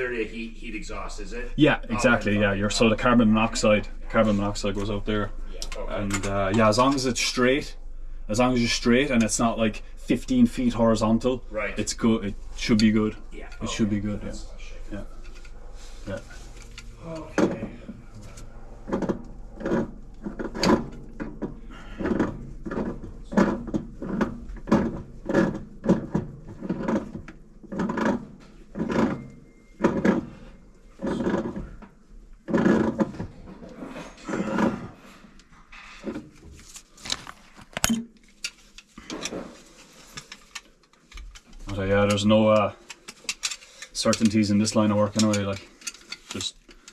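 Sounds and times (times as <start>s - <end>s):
steady low hum: 0.0s - 46.1s.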